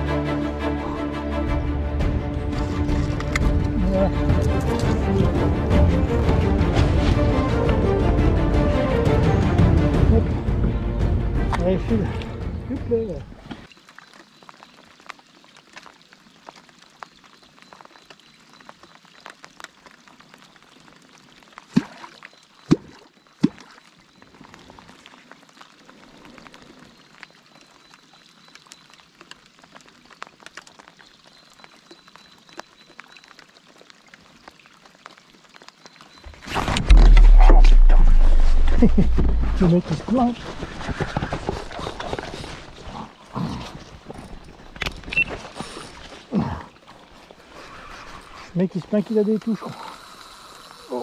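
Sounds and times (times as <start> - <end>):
light rain falling: 0.0 - 51.0.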